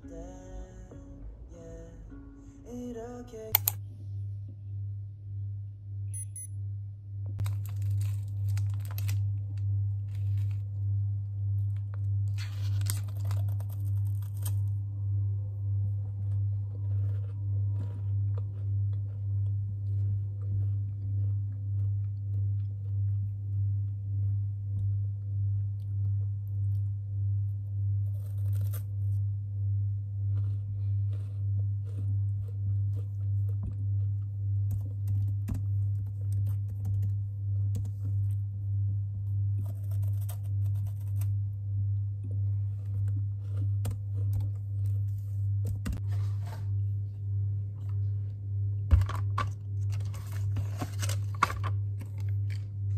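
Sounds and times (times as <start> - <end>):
pulsing low hum: 0.0 - 52.9.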